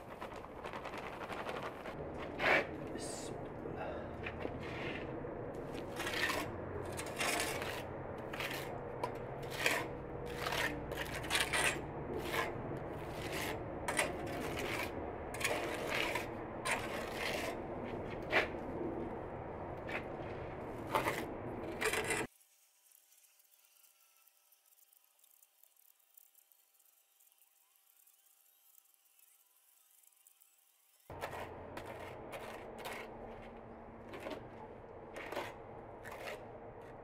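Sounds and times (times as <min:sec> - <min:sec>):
trowel scraping cement mortar: 0:00.0 - 0:03.2, 0:04.1 - 0:19.1, 0:19.8 - 0:30.4, 0:31.0 - 0:37.0.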